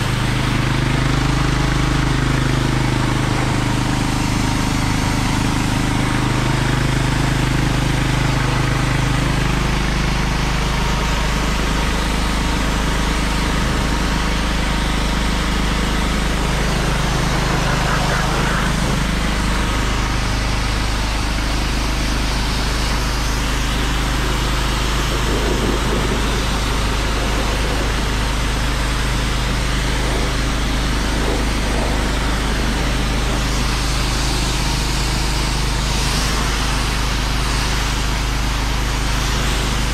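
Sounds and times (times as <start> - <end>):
low hum: 0.0 - 36.9
petrol generator running: 0.0 - 39.9
pressure washer pump running: 0.0 - 39.9.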